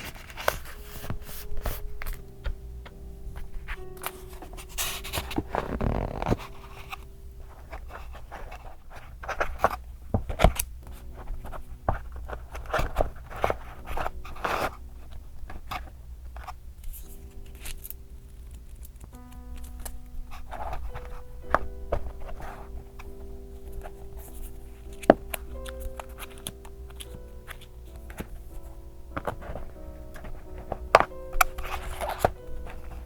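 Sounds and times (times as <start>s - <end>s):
paper rustling and scraping: 0.0s - 18.0s, 18.6s - 33.0s.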